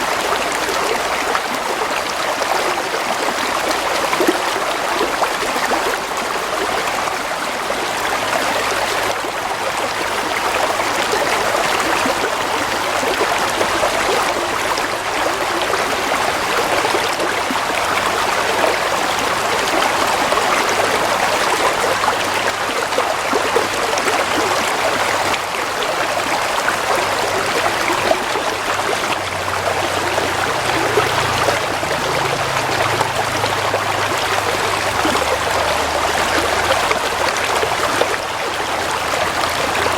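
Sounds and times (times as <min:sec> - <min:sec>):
stream water trickling over stones: 0:00.0 - 0:39.9.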